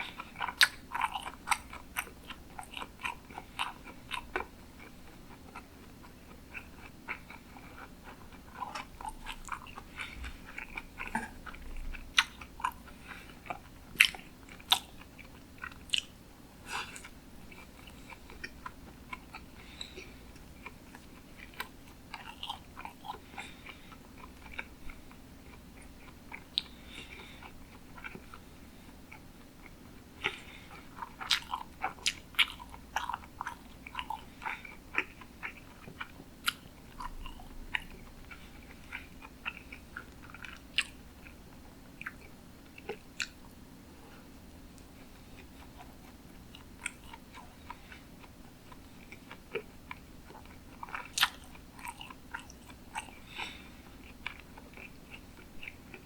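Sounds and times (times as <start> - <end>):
chewing with wet mouth smacks: 0.0 - 43.6, 44.4 - 56.0.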